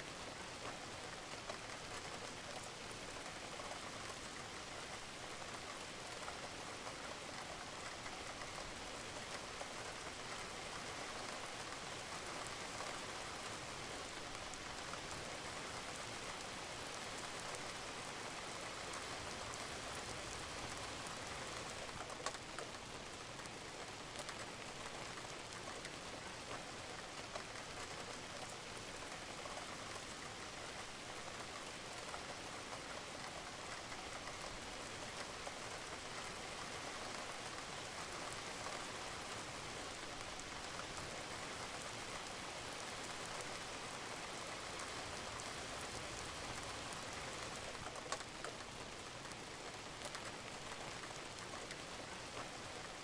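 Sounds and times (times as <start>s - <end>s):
rain falling on a roof: 0.0s - 53.0s.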